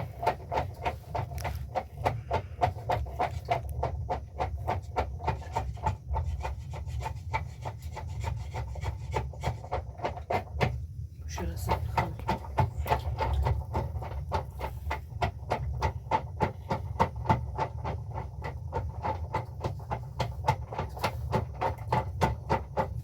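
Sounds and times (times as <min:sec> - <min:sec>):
rapid knocking strokes: 0:00.0 - 0:23.0.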